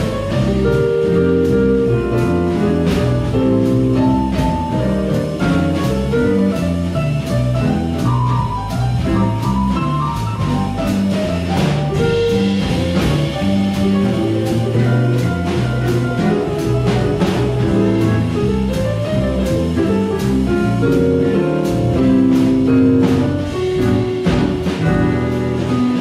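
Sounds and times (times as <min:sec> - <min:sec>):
drum kit beat: 0:00.0 - 0:26.0
jazz band playing swing: 0:00.0 - 0:26.0
walking bass line: 0:00.0 - 0:26.0.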